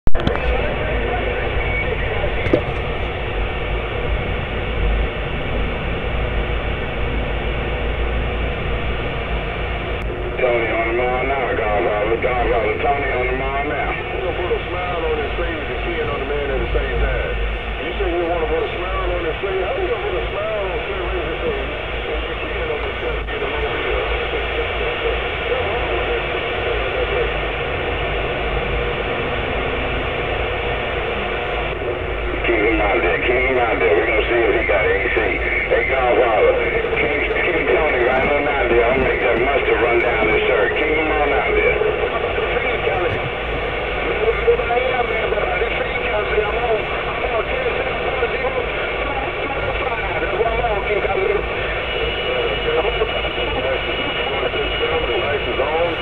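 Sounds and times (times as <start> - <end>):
radio static hiss: 0.1 - 4.6, 9.6 - 56.0
low hum: 0.1 - 56.0.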